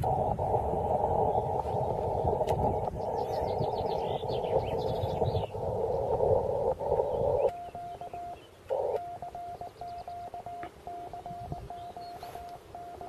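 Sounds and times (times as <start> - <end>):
faint birds chirping: 0.0 - 13.0
morse code tone: 0.0 - 13.0
radio receiver hiss: 0.0 - 13.0.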